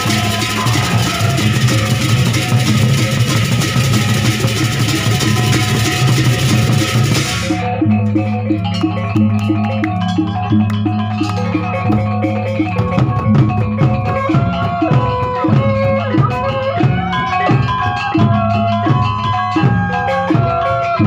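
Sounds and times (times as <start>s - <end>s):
small gongs and cymbals ringing: 0.0s - 20.4s
large barrel drums beating: 0.0s - 20.6s.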